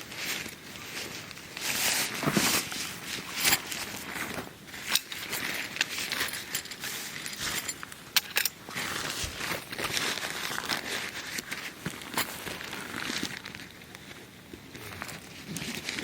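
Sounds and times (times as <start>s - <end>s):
camping gear crinkling: 0.0s - 16.0s.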